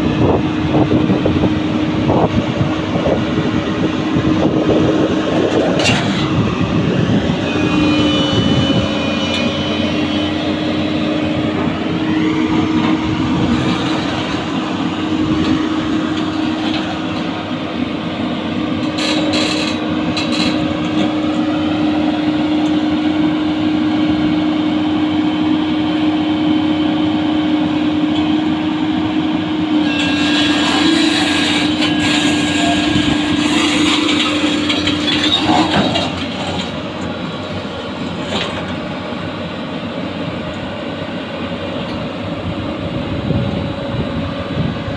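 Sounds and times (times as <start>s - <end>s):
excavator engine and hydraulics hum: 0.0s - 44.9s
steel tracks rumbling and rattling: 0.0s - 44.9s.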